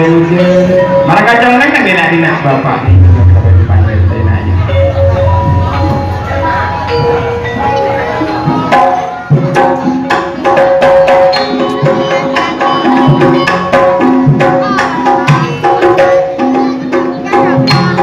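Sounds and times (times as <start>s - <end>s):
hand drums in fast rhythm: 0.0s - 18.0s
held melody notes: 0.0s - 18.0s.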